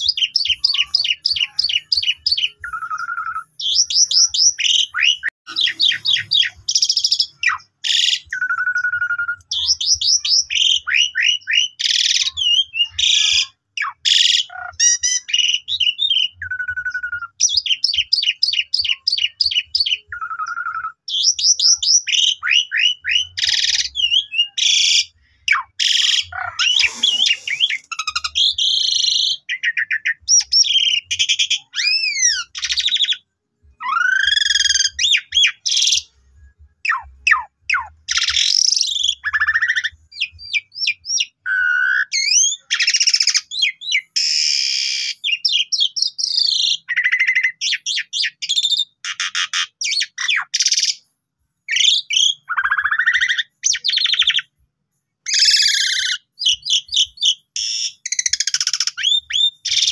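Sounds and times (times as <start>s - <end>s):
starling singing: 0.0s - 51.1s, 51.7s - 54.5s, 55.3s - 59.9s.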